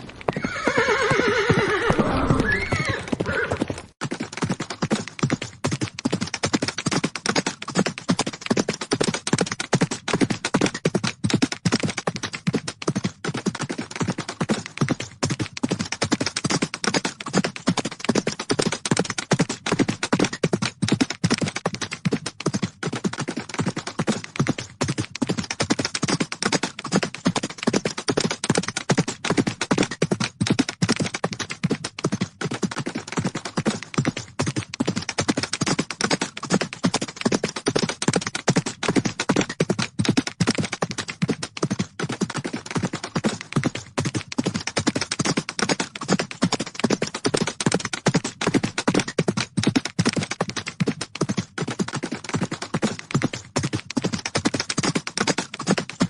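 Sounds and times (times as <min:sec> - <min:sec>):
horses galloping: 0:00.0 - 0:56.0.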